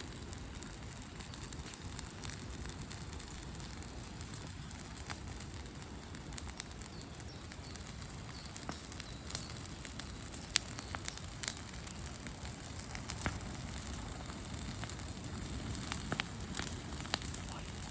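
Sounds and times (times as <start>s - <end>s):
campfire crackling and popping: 0.0s - 17.9s
campfire hiss: 0.0s - 17.9s.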